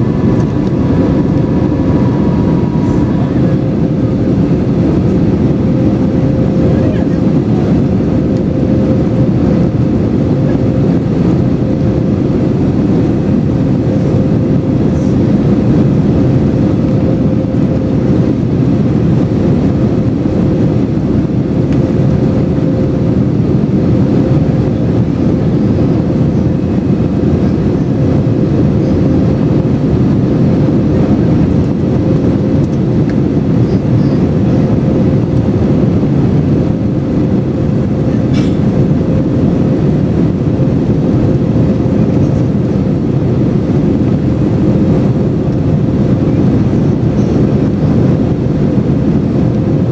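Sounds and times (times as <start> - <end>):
airliner cabin engine roar: 0.0 - 49.9
steady hum: 0.0 - 49.9.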